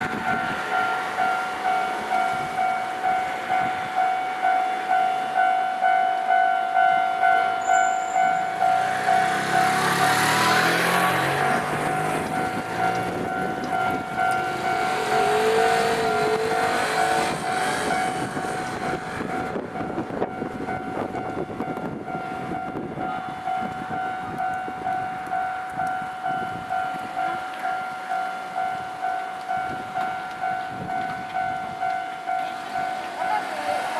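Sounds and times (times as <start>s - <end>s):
level-crossing warning bell: 0.0s - 33.9s
train running noise: 0.0s - 33.9s.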